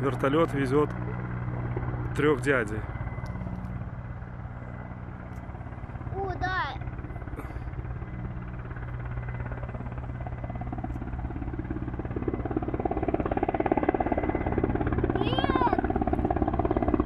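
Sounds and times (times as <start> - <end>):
helicopter rotor beating: 0.0 - 17.0.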